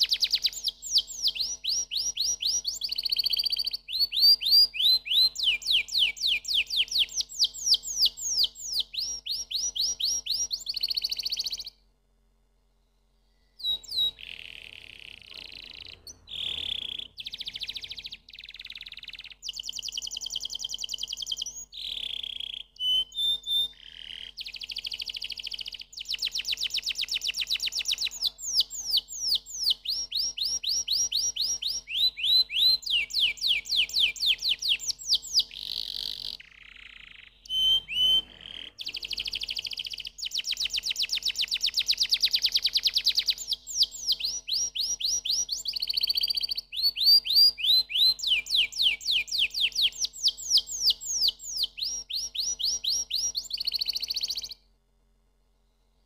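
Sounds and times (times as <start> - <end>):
canary singing trills: 0.0 - 11.8, 13.5 - 54.6.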